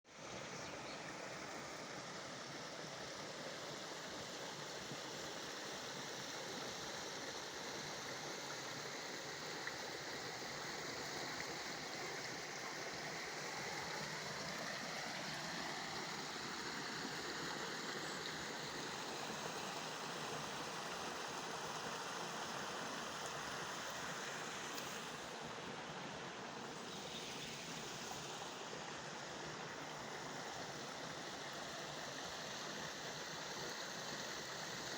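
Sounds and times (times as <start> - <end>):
stream running over rocks: 0.1 - 34.9.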